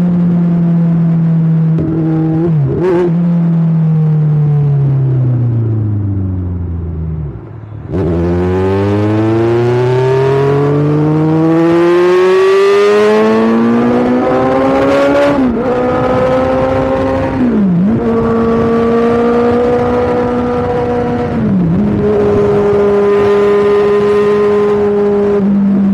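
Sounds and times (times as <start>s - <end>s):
motorcycle engine revving: 4.8s - 25.9s.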